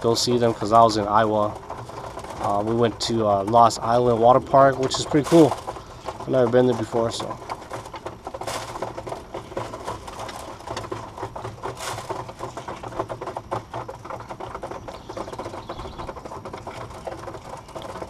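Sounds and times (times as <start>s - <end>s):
pigeon feet and wings tapping: 0.0s - 18.0s.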